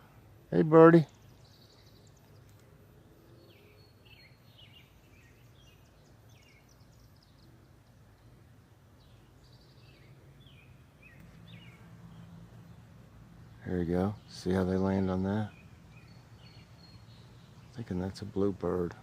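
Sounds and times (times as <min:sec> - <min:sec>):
outdoor background noise: 0:00.0 - 0:19.0
faint bird chirps: 0:00.9 - 0:19.0.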